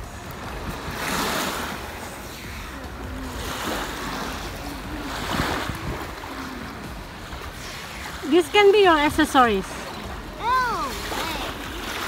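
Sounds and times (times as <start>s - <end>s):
small waves washing on beach: 0.0s - 12.0s.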